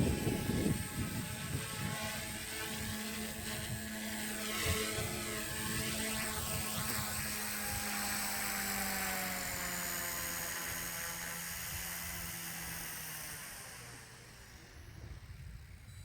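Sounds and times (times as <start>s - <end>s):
wind on microphone: 0.0s - 13.9s, 14.5s - 16.0s
rc helicopter rotor whining: 0.0s - 16.0s.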